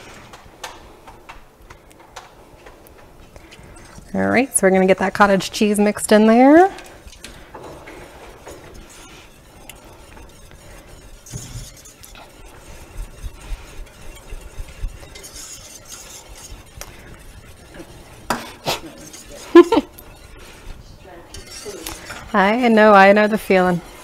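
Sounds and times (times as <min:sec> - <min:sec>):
utensil stirring sauce in pot: 0:03.3 - 0:24.0.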